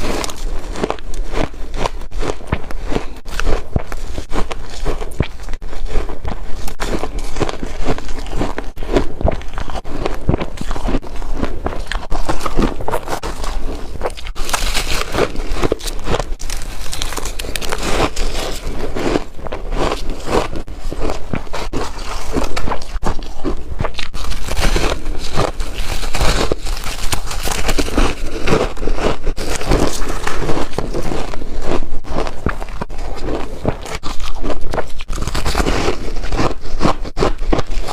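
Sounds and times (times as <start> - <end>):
ice crunching in mouth: 0.0 - 37.9.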